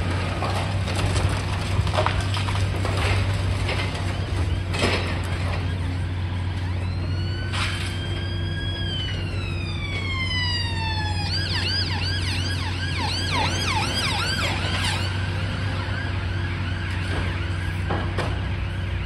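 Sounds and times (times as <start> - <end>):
emergency vehicle siren: 0.0 - 19.0
excavator engine drone: 0.0 - 19.0.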